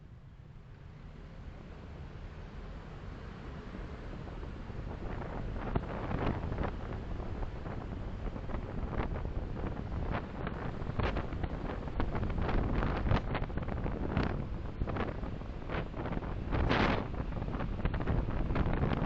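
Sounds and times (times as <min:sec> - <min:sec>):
road and wind noise rumble: 0:00.0 - 0:19.0
wind buffeting microphone: 0:03.0 - 0:19.0.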